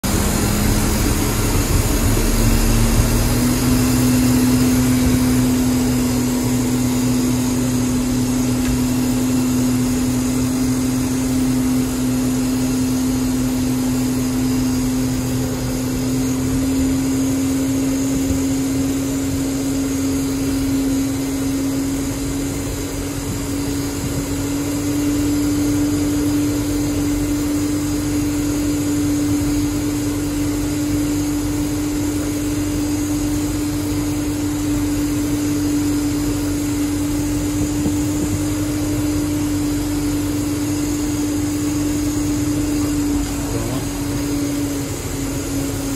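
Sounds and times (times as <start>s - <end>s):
jet engine whine: 0.0s - 45.9s.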